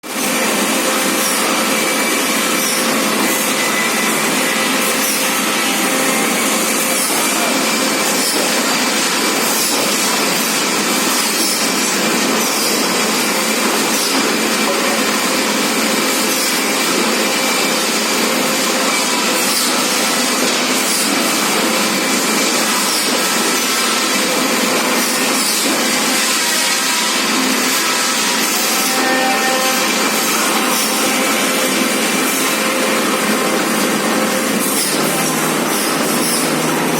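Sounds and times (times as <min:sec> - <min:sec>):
forklift running: 0:00.0 - 0:36.9.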